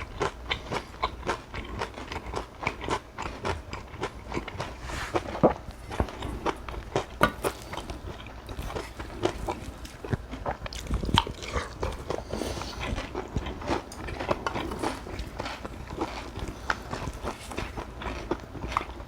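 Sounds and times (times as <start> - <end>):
wet chewing: 0.0 - 19.0.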